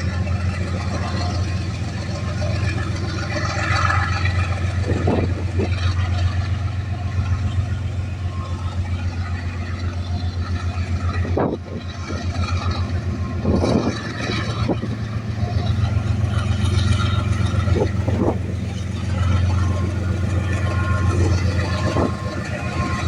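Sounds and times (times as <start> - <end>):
engine running with a throb: 0.0 - 23.0.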